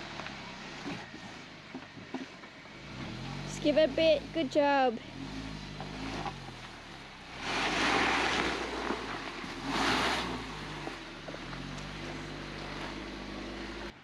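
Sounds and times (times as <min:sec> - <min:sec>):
engine running under load: 0:00.0 - 0:14.0.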